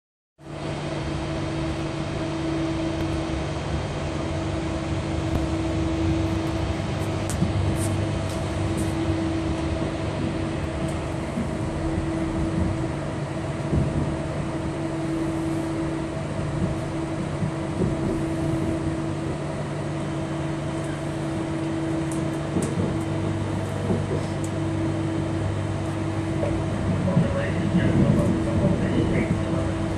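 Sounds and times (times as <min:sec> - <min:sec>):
train machinery hum: 0:00.4 - 0:29.9
wheels rumbling on track: 0:00.4 - 0:29.9.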